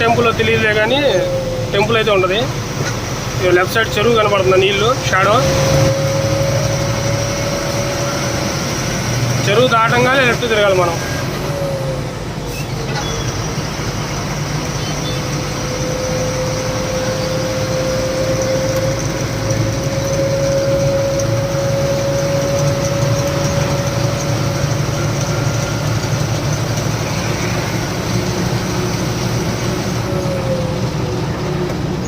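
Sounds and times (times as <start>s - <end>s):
lorry diesel engine running: 0.0s - 32.0s
rising engine whine: 0.0s - 32.0s.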